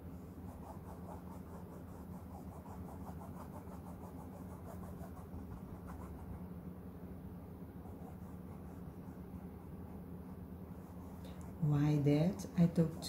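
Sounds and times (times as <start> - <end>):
steady low hum: 0.0 - 13.0
paintbrush scratching on canvas: 0.1 - 6.5, 7.7 - 13.0.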